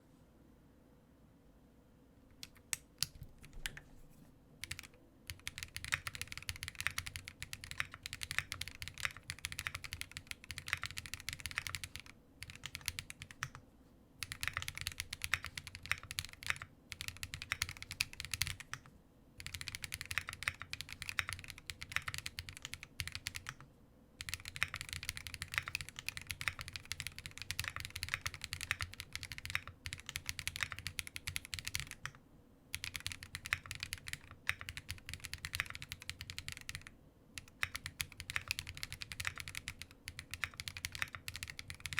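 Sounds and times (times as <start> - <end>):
mechanical keyboard typing: 2.3 - 3.9, 4.6 - 13.6, 14.2 - 41.9.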